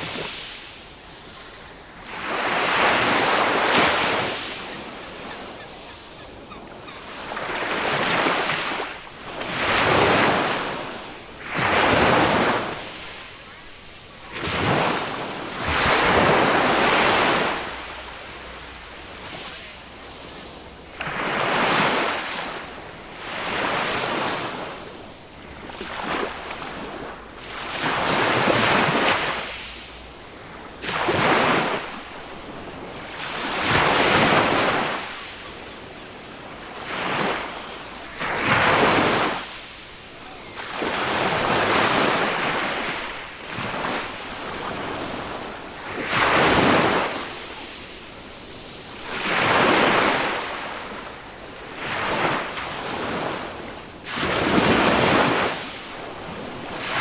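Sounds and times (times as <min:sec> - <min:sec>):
sea waves breaking on sand: 0:00.0 - 0:57.0.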